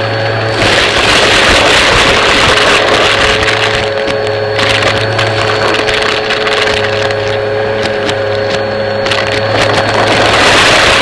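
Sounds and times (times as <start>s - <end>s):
debris crackling in vacuum: 0.0s - 11.0s
vacuum cleaner running: 0.0s - 11.0s.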